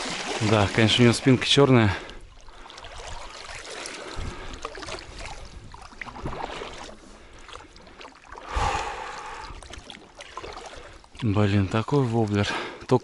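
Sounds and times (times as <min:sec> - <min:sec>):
kayak paddle splashing: 0:00.0 - 0:12.9
water trickling off blades: 0:00.0 - 0:13.0.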